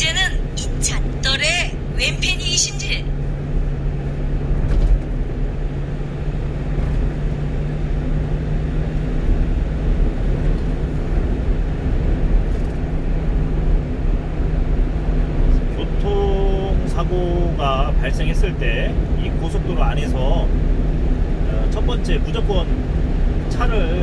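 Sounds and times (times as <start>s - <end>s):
truck engine and tyre drone: 0.0s - 24.0s.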